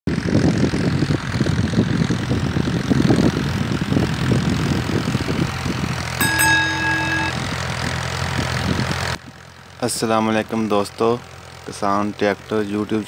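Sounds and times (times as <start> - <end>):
tractor diesel engine under load: 0.1 - 13.0.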